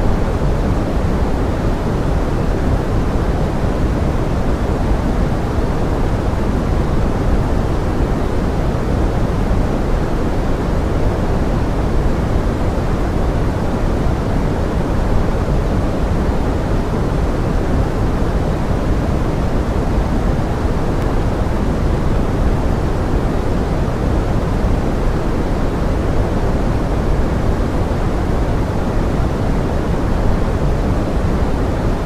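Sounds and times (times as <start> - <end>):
rushing rain hiss: 0.0 - 32.0.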